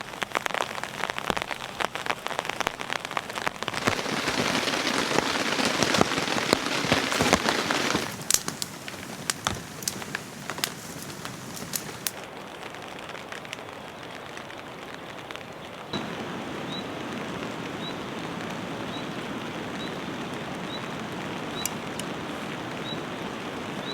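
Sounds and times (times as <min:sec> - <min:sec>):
rain pattering on a surface: 0:00.0 - 0:23.9.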